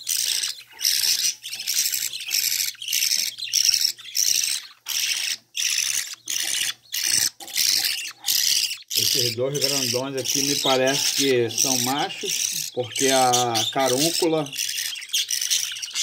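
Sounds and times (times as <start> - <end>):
chicks raspy begging calls: 0.0 - 16.0.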